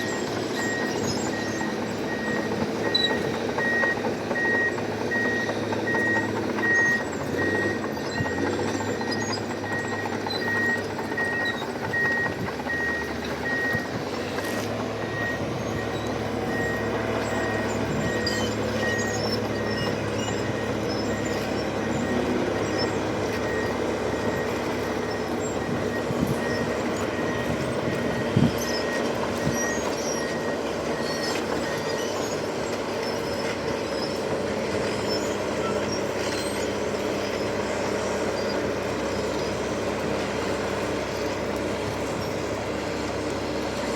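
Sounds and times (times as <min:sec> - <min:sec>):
reversing alarm beeping: 0:00.0 - 0:40.5
bulldozer diesel engine running: 0:00.0 - 0:43.9.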